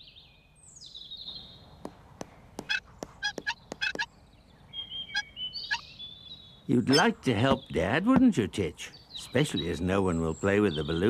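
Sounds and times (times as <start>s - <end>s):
high chirping birdsong: 0.0s - 11.0s.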